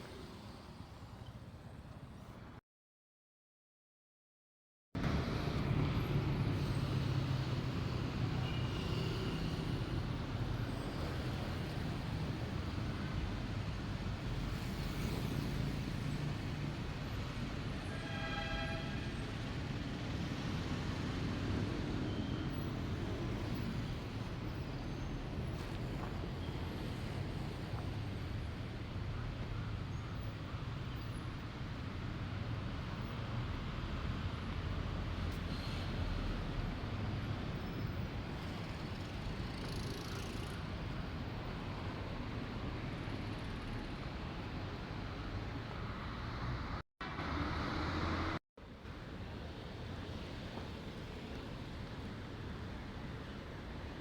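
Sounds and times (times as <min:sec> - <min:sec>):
road traffic rumble: 0:05.0 - 0:54.0.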